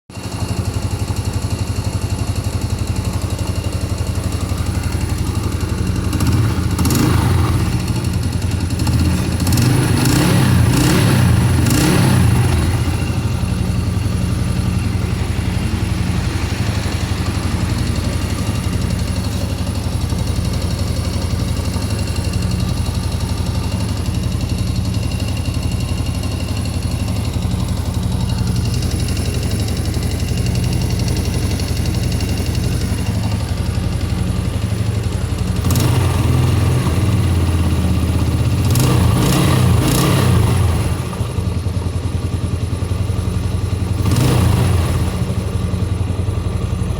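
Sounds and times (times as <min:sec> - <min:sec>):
motorcycle engine idling: 0:00.1 - 0:46.9.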